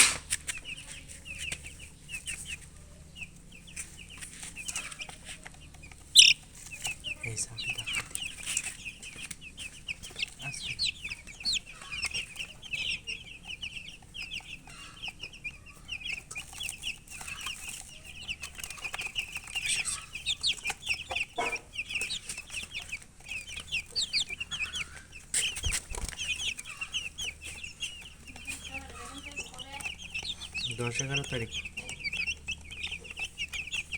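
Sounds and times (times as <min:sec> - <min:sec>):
baby chicks chirping: 0:00.0 - 0:33.9.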